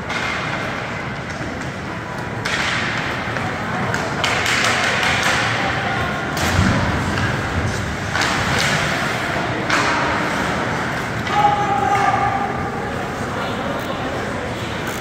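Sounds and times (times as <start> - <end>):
hockey sticks clacking on puck: 0.0 - 15.0.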